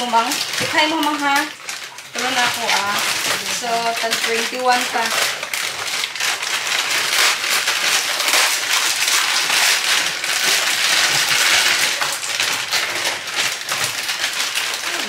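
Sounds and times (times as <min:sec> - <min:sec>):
plastic packets crinkling and tearing: 0:00.0 - 0:15.0.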